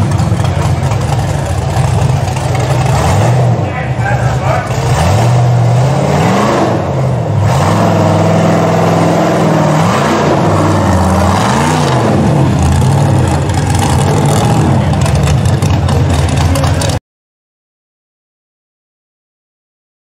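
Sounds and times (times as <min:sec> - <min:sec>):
buggy engine running hard: 0:00.0 - 0:17.0
engine rev blips: 0:00.0 - 0:17.0.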